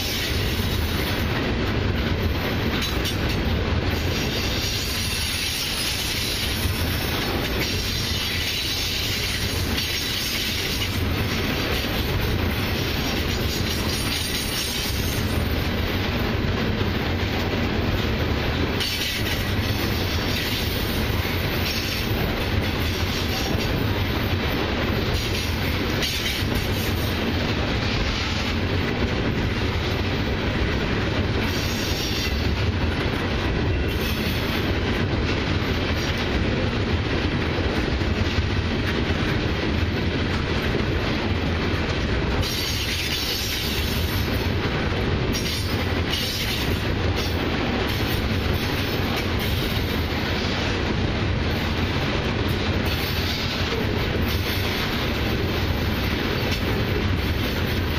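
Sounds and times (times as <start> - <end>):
freight train wheels rumbling on rails: 0.0 - 57.9.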